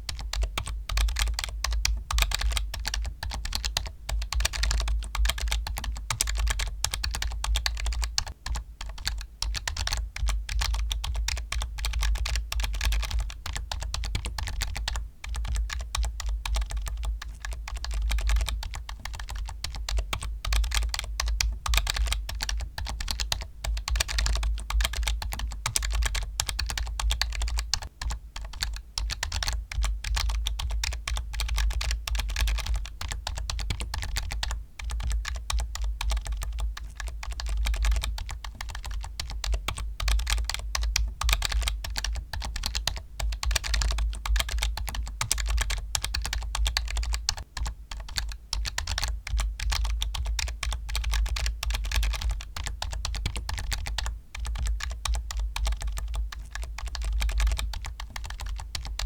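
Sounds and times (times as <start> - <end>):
fast typing on keyboard: 0.0 - 59.0.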